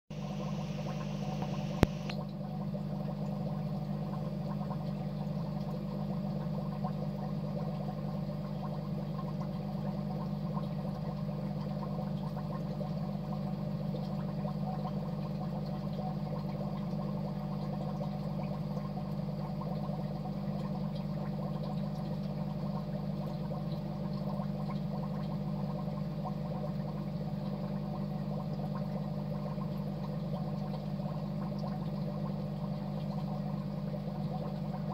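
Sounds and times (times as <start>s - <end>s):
low filter hum: 0.1s - 34.9s
water bubbling and gurgling: 0.1s - 34.9s.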